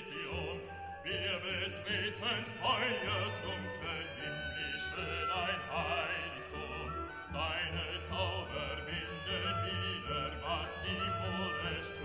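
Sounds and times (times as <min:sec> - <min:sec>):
operatic classical music: 0:00.0 - 0:12.0.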